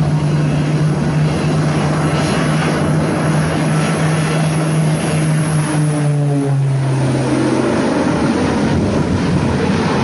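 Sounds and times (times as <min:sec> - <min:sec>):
propeller airplane engines droning: 0:00.0 - 0:10.0
steady rushing noise: 0:00.0 - 0:10.0.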